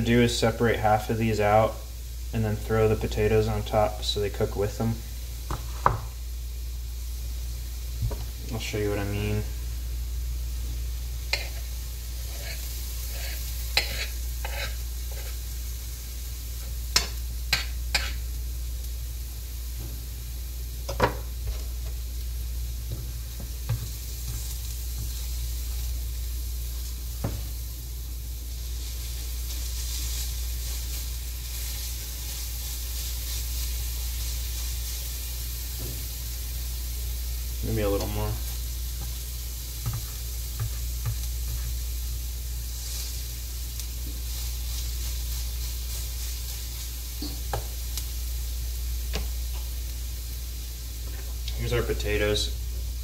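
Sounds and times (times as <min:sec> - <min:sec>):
onion sizzling in a frying pan: 0:00.0 - 0:53.0
steady low hum: 0:00.0 - 0:53.0.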